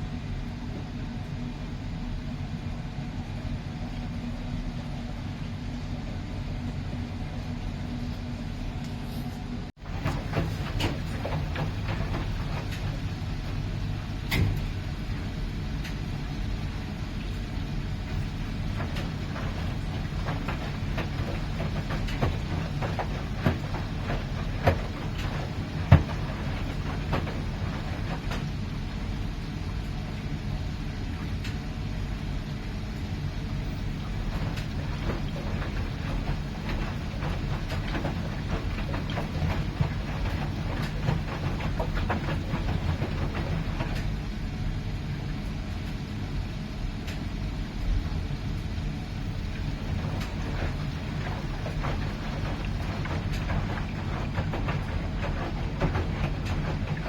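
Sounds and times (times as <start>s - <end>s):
washing machine humming: 0.0s - 57.0s
washing machine knocking: 9.8s - 45.9s, 47.1s - 57.0s.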